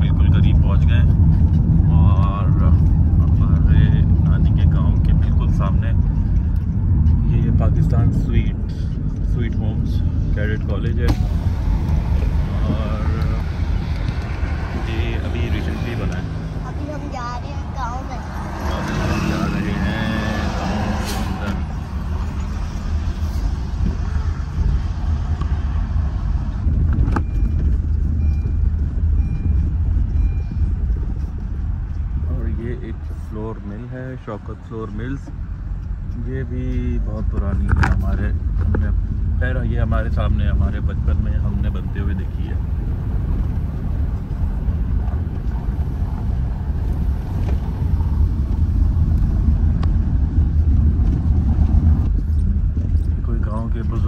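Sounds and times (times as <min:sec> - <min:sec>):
car engine and tyres rumble: 0:00.0 - 0:54.0.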